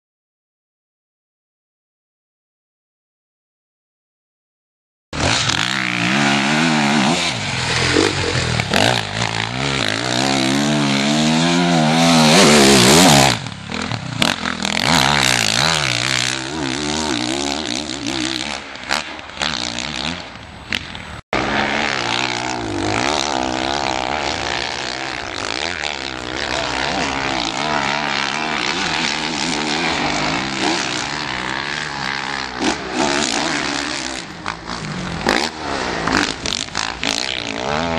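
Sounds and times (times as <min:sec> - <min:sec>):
dirt bike engines revving: 0:05.2 - 0:37.9.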